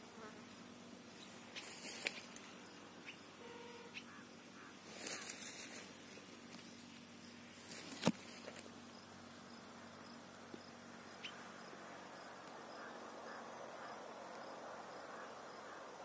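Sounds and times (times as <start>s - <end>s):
insect chirping: 0.6s - 16.0s.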